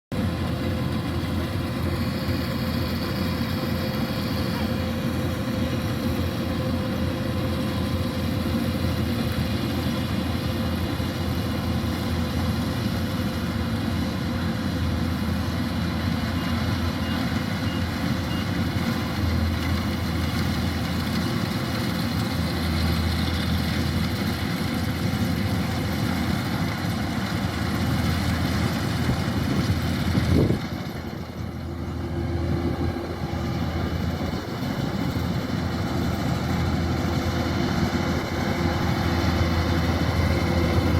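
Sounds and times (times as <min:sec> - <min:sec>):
diesel engine running: 0:00.1 - 0:40.9.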